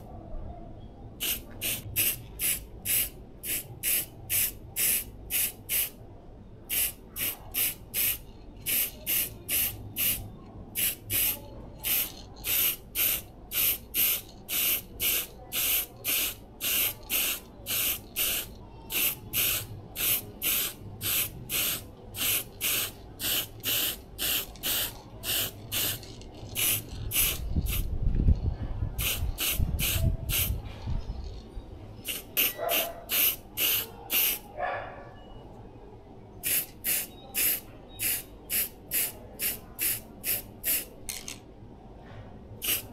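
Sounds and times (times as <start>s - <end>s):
spray can hissing bursts: 1.2s - 6.0s, 6.7s - 27.9s, 29.0s - 30.6s, 32.0s - 34.5s, 36.4s - 40.9s, 42.6s - 42.9s.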